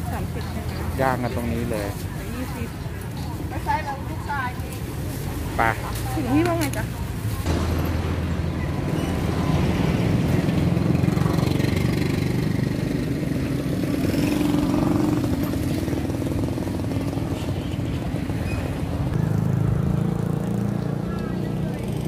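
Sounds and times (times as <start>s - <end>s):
motorcycle engines passing: 0.0s - 22.0s
street traffic rumble: 0.0s - 22.0s.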